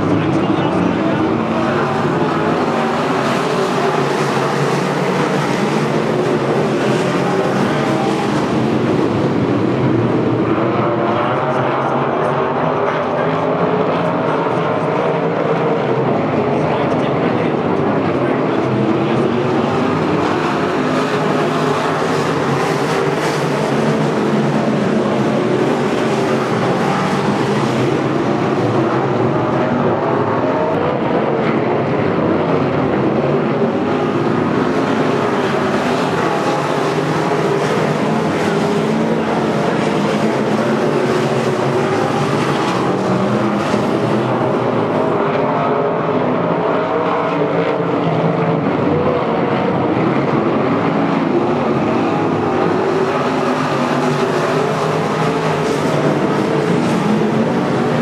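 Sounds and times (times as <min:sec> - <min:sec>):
race car engines at high revs: 0:00.0 - 0:58.0.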